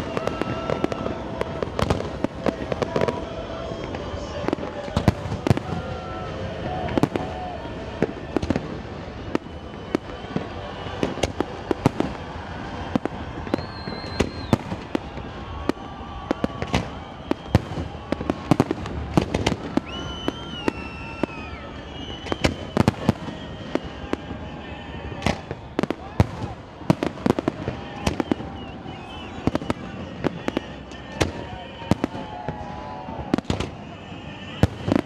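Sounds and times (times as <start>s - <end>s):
fireworks bursting with sharp bangs: 0.0s - 35.0s
fireworks whistling high tones: 0.0s - 35.0s.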